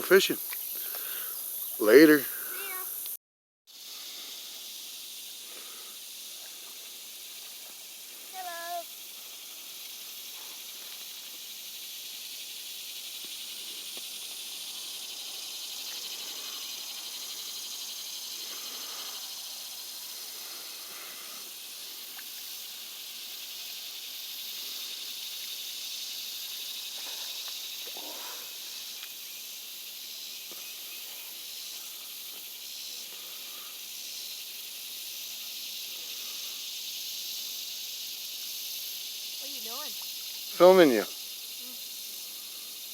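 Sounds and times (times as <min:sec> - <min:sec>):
high-pitched insect chorus: 0:00.0 - 0:42.9.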